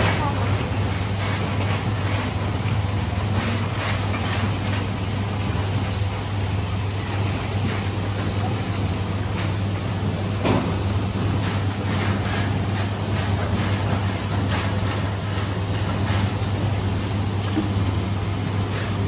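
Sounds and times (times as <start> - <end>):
sorting machine humming: 0.0 - 19.0.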